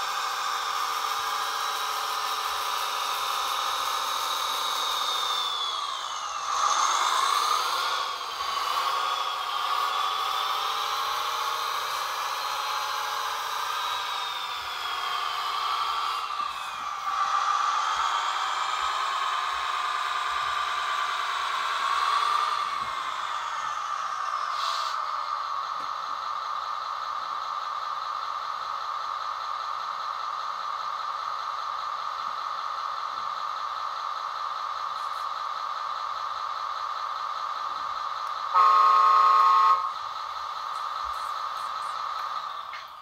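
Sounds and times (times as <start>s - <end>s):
toy truck motor whining: 0.0s - 30.2s, 36.2s - 43.0s.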